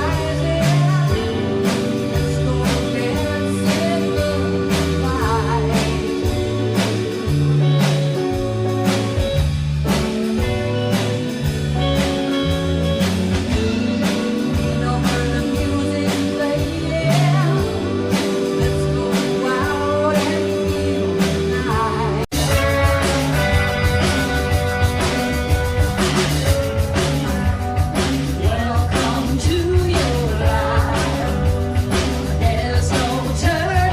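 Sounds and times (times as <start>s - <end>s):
person singing: 0.0s - 9.2s, 13.6s - 33.9s
bass: 0.0s - 33.9s
guitar: 0.0s - 33.9s
steady drum beat: 0.0s - 33.9s.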